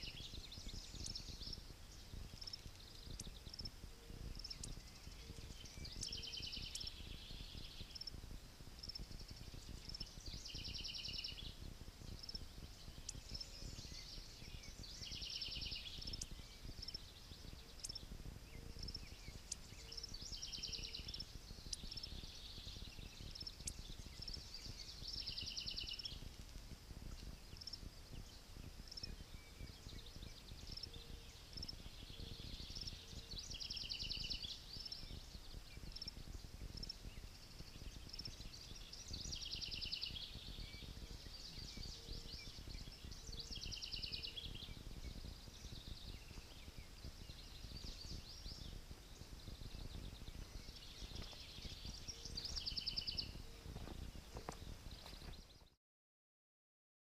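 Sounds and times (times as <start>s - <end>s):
bird trilling song: 0.0s - 8.2s, 8.8s - 55.8s
wind rumble on microphone: 0.0s - 55.8s.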